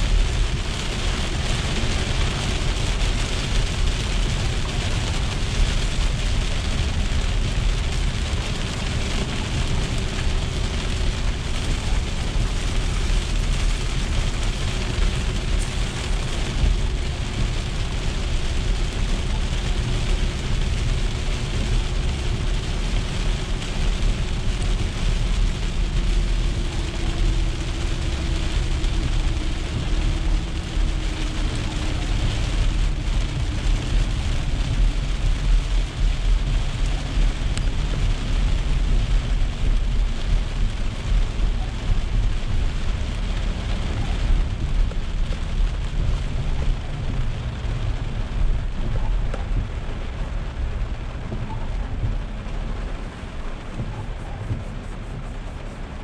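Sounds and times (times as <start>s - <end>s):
heavy rain on car roof: 0.0s - 56.0s
tyres rumbling on wet road: 0.0s - 56.0s.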